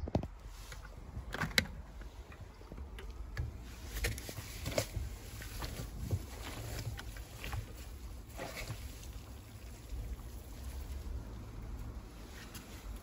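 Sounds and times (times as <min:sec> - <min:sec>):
water and laundry sloshing in drum: 0:02.0 - 0:13.0.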